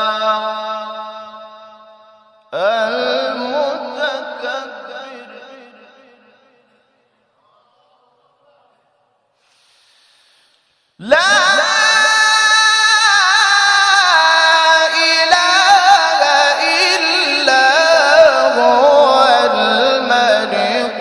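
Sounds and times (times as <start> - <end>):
man reciting melodically: 0.0 - 6.4, 7.3 - 9.1, 11.0 - 21.0.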